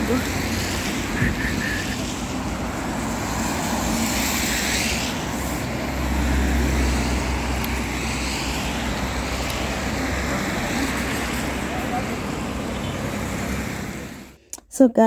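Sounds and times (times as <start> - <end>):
tyres hissing on wet road: 0.0 - 14.4
vehicle passing: 0.0 - 14.4.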